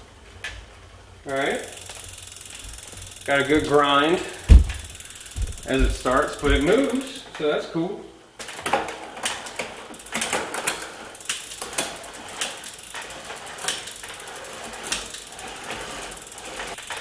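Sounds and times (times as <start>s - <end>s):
bicycle chain grinding and rattling: 1.2s - 7.4s, 8.4s - 17.0s.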